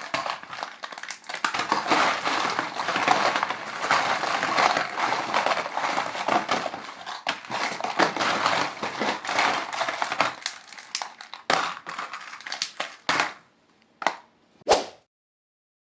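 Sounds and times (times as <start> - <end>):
candy wrapper crinkling: 0.0 - 13.4.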